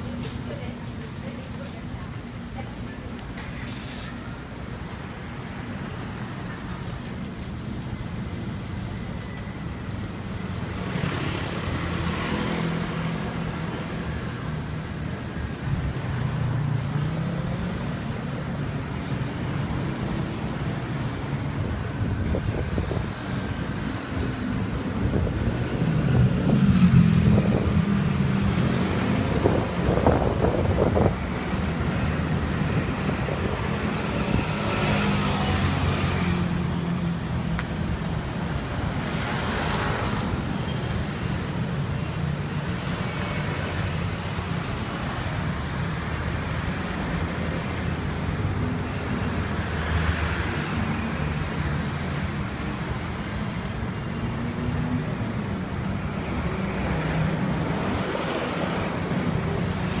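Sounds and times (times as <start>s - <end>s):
road traffic rumble: 0.0s - 60.0s
vehicles passing: 0.0s - 60.0s.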